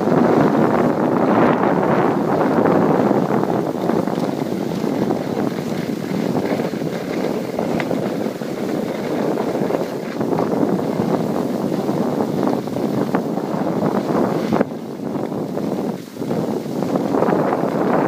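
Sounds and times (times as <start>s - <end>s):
skis sliding on packed snow: 0.0s - 18.0s
wind rushing over microphone: 0.0s - 18.0s.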